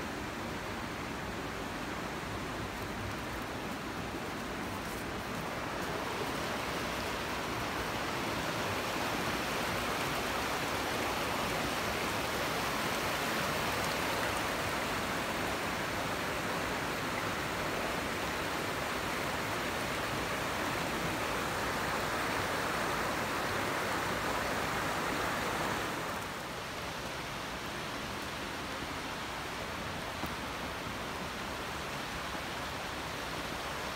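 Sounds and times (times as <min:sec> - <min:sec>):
river rushing over rapids: 0:00.0 - 0:33.9.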